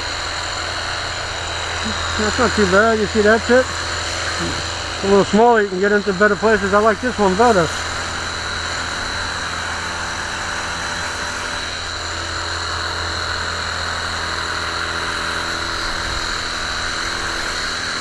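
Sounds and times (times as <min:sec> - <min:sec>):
electric pressure washer spraying: 0:00.0 - 0:18.0.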